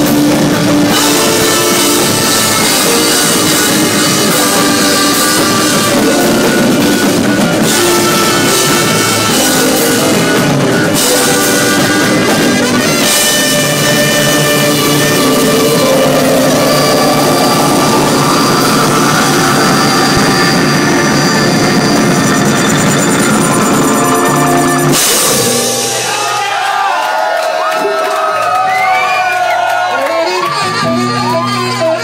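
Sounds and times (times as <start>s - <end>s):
drum kit: 0.0s - 27.1s
rock band playing loudly: 0.0s - 27.9s, 28.6s - 32.0s.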